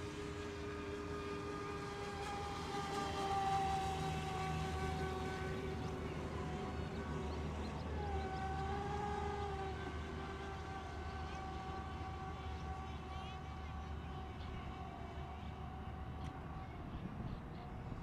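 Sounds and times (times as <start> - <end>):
boat engine passing: 0.0 - 18.0
racing boat engines whining: 0.0 - 18.0.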